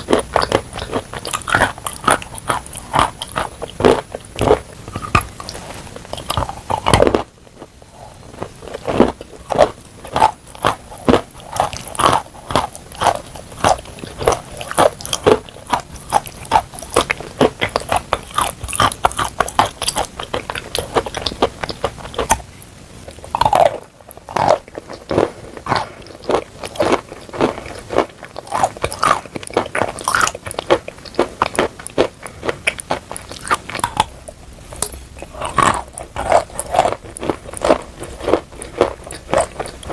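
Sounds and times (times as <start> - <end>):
chewing crunchy chalk: 0.0 - 7.3, 8.0 - 22.4, 23.2 - 39.9.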